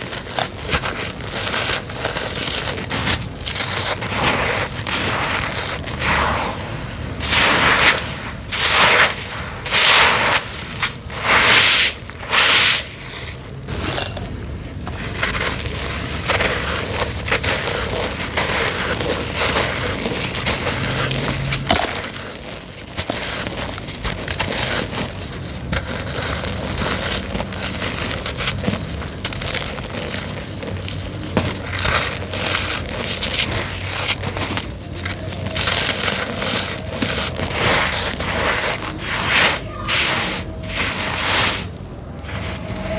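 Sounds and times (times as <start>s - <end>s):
cement crushing crunches: 0.0s - 42.9s.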